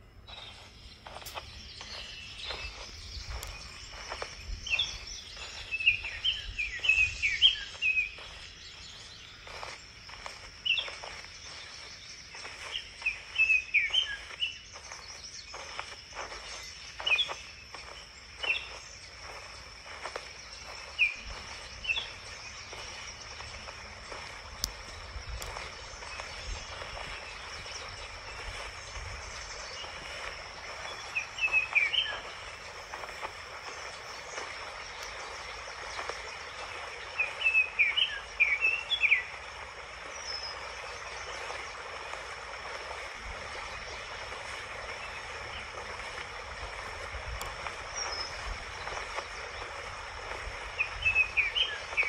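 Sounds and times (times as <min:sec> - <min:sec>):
outdoor background noise: 0:00.0 - 0:52.0
small birds chirping: 0:00.0 - 0:52.0.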